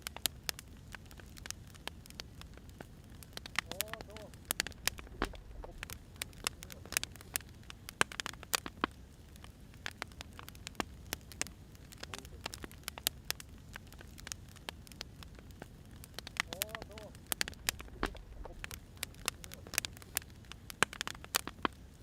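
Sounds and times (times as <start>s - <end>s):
burning firewood crackling: 0.0s - 22.0s.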